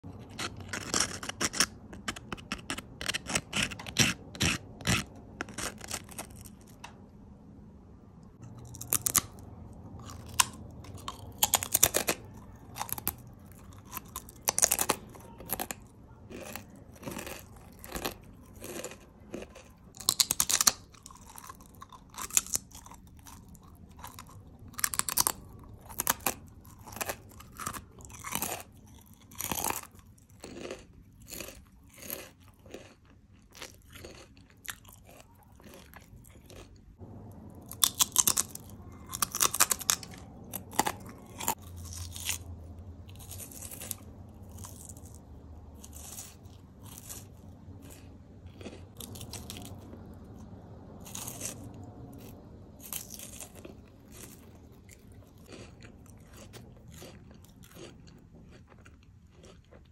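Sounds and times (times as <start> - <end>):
potato chips crunching: 0.0 - 6.9, 8.4 - 59.9
soft chewing: 8.3 - 59.9.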